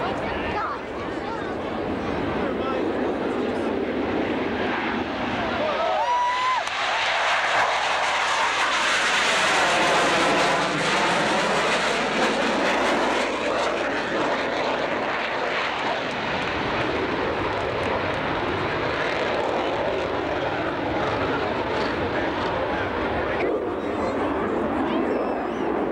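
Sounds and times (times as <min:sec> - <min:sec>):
jets flying past: 0:00.0 - 0:25.9.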